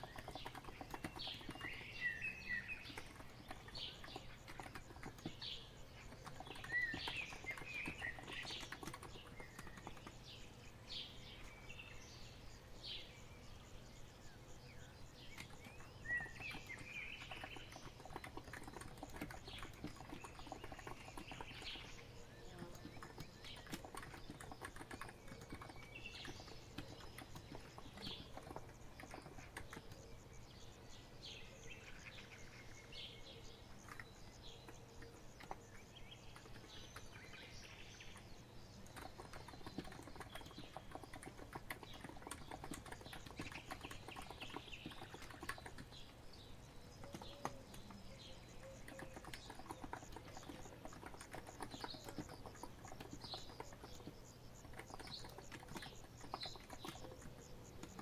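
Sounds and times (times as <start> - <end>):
keyboard typing clicks: 0.0 - 1.9, 2.8 - 10.2, 15.3 - 30.1, 33.7 - 58.0
birds chirping: 0.0 - 58.0.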